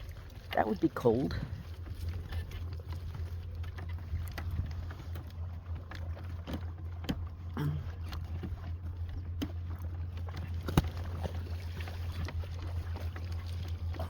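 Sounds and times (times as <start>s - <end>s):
splashing in shallow water: 0.0s - 14.0s.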